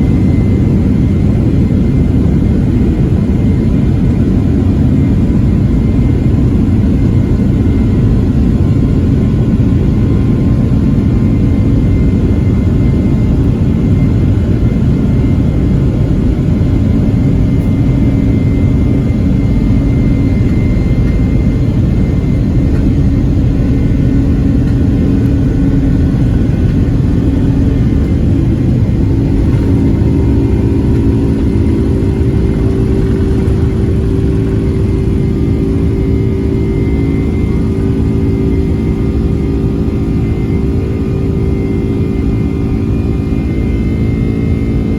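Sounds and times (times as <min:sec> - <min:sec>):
faint steady whine: 0:00.0 - 0:44.9
jet engine rumble in cabin: 0:00.0 - 0:44.9
steady low hum: 0:00.0 - 0:44.9.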